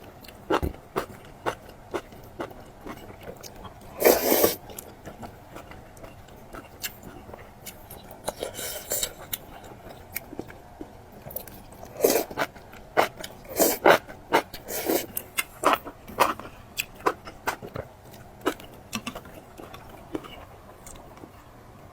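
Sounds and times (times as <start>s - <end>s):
chewing and biting food: 0.0s - 21.4s.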